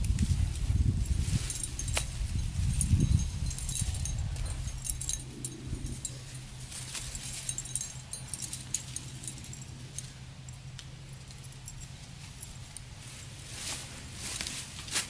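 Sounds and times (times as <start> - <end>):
metal carabiners clinking: 0.0 - 12.9.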